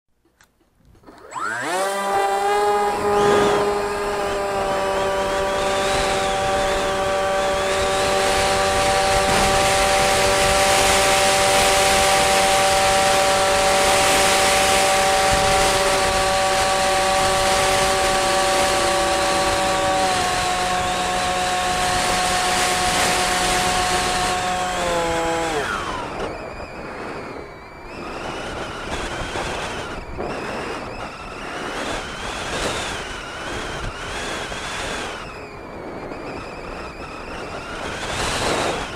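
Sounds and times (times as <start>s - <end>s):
model aircraft motor drone: 0.3s - 38.9s
wind gusting over microphone: 0.9s - 38.9s.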